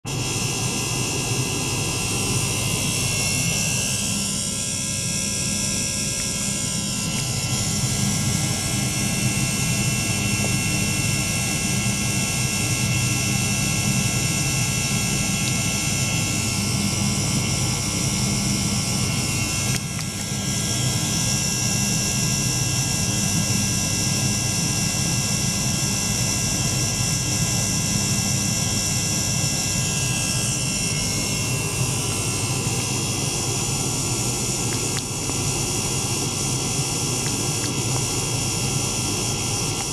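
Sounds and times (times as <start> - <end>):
small pump droning with whine: 0.0 - 39.9.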